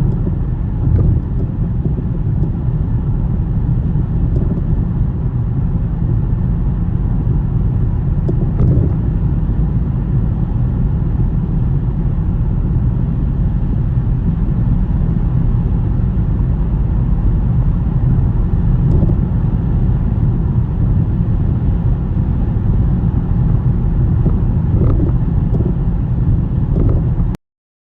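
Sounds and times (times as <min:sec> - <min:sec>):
car driving on snowy road: 0:00.0 - 0:27.4.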